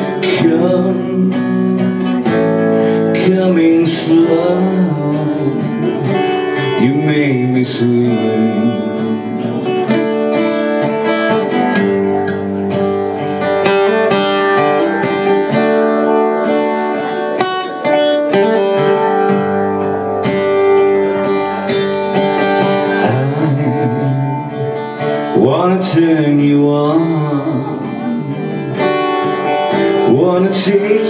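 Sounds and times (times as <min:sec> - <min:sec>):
acoustic guitar strummed: 0:00.0 - 0:31.0.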